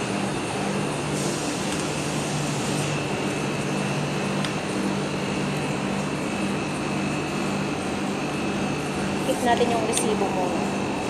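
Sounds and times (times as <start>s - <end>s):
ventilation hum and hiss: 0.0s - 11.0s.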